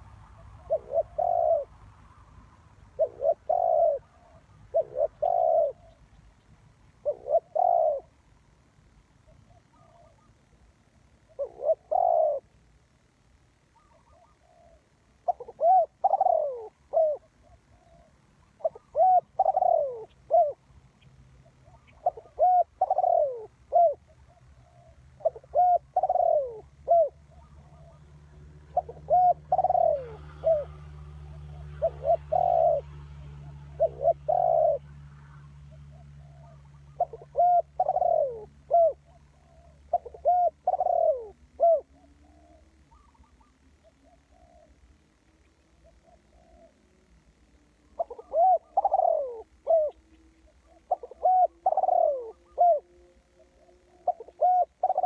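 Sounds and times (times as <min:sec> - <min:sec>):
dove cooing: 0:00.0 - 0:55.0
low steady hum: 0:00.0 - 0:55.0.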